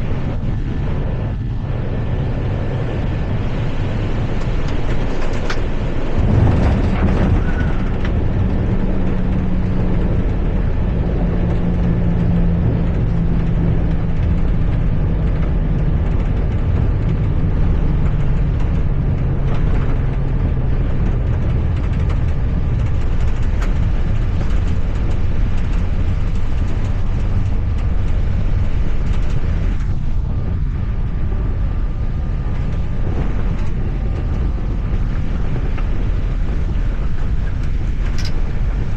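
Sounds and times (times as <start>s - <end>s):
low hum dropping in pitch: 0.0s - 38.9s
rush of air and engines: 0.0s - 38.9s.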